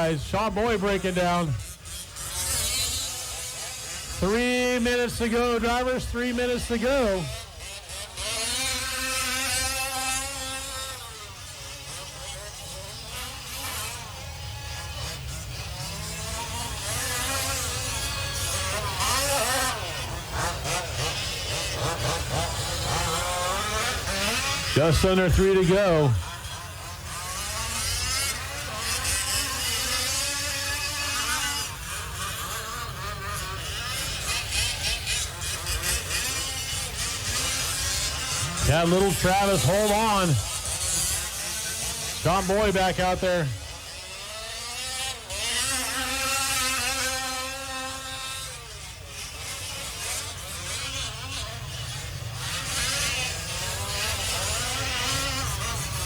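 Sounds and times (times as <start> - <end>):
small two-stroke engines buzzing: 0.0 - 56.0.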